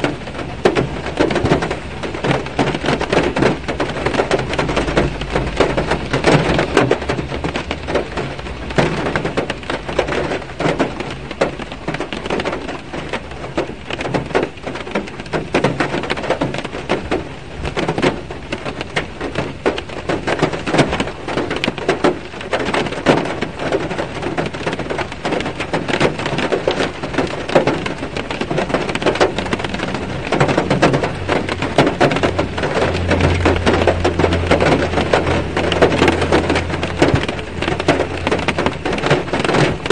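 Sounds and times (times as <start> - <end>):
rain pattering on a car: 0.0 - 39.9.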